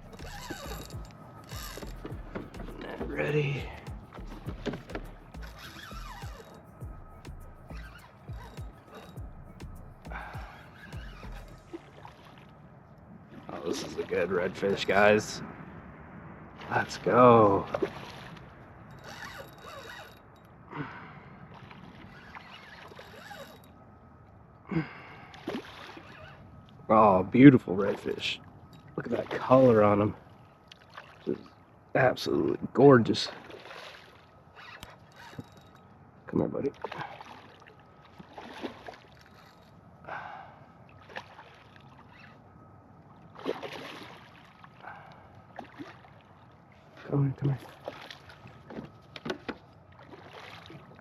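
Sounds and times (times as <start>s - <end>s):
kayak gear creaking and rustling: 0.0s - 15.3s, 17.7s - 20.7s, 21.4s - 31.4s, 33.4s - 36.2s, 36.8s - 40.3s, 41.0s - 51.0s.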